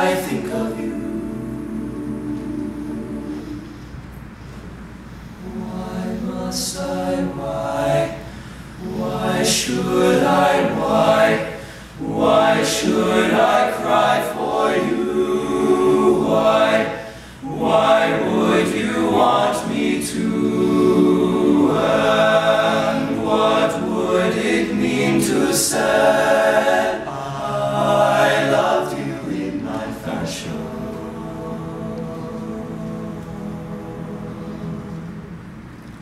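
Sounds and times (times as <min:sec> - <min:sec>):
male group singing in harmony: 0:00.0 - 0:03.9, 0:05.4 - 0:35.5.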